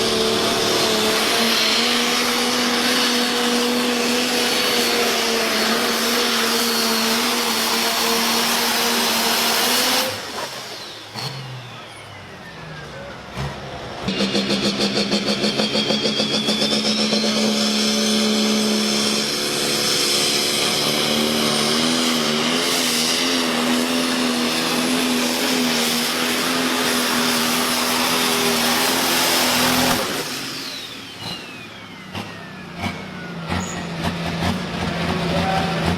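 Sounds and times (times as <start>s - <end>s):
tractor engine at full throttle: 0.0s - 35.9s.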